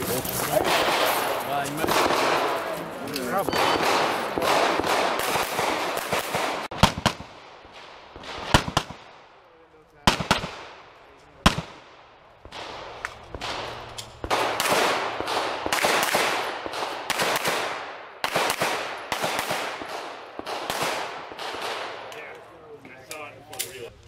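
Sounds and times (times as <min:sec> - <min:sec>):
pistol shots echoing: 0:00.5 - 0:09.4, 0:10.0 - 0:22.3.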